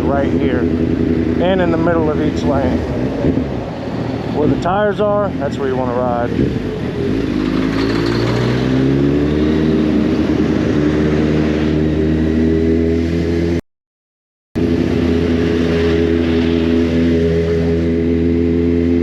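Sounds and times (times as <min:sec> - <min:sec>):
motorcycle engine running low: 0:00.0 - 0:13.6, 0:14.6 - 0:19.0.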